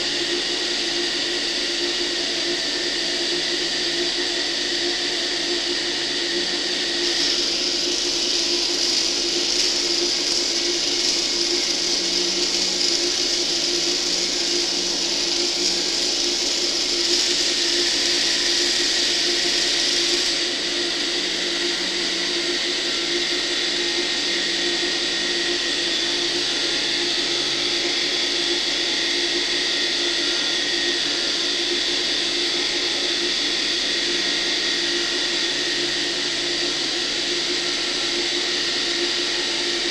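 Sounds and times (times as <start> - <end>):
small motors and gears whirring: 0.0 - 39.9.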